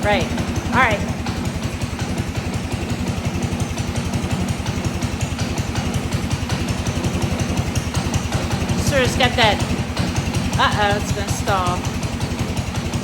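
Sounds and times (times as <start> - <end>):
small engine putter: 0.0 - 13.0.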